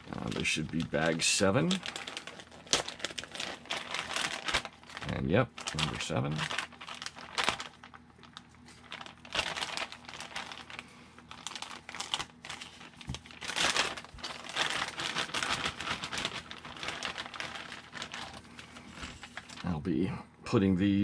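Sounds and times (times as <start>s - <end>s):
plastic bag crinkling: 0.0s - 19.8s.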